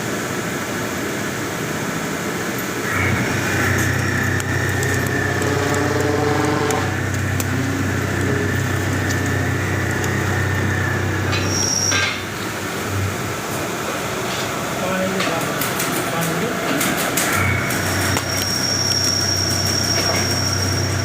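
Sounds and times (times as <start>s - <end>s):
drilling machine motor hum and whine: 0.0s - 15.3s, 16.3s - 21.0s.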